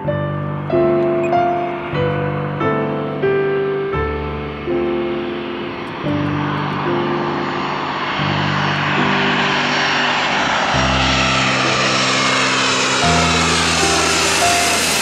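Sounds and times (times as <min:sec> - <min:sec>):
faint whine gliding in pitch: 0:00.0 - 0:15.0
jet engine roar: 0:00.0 - 0:15.0.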